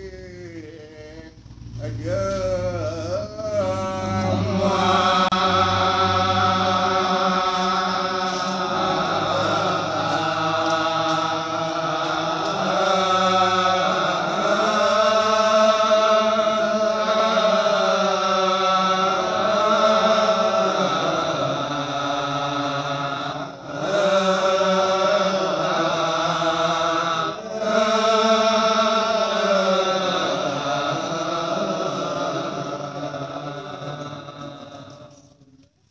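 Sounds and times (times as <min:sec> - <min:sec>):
men chanting and singing together: 0:00.0 - 0:35.4
low hummed drone: 0:00.0 - 0:35.6.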